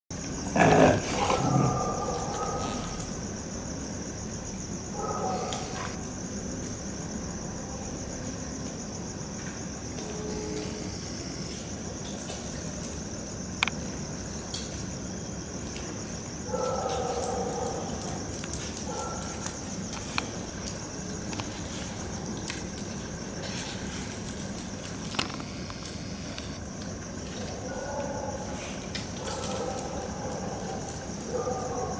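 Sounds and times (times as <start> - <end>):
insects trilling: 0.1 - 31.9.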